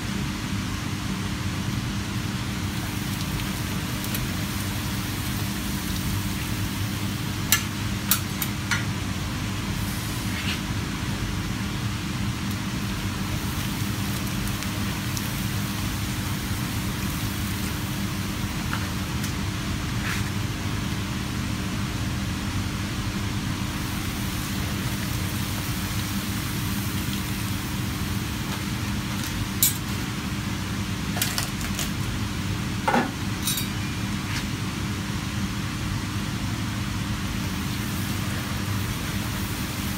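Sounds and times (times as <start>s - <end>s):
hot oil sizzling: 0.7s - 34.3s, 35.3s - 39.9s
kitchen hum: 1.2s - 36.1s, 36.8s - 39.9s.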